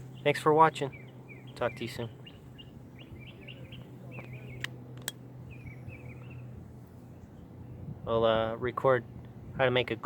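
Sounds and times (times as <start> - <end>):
small birds chirping: 0.0 - 9.3
steady low hum: 0.0 - 10.0.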